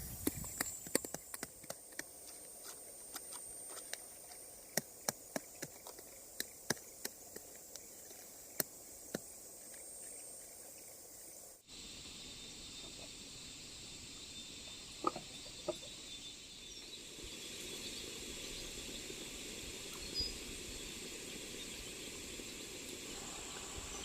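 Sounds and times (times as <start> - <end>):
faint high hiss: 0.0 - 24.0.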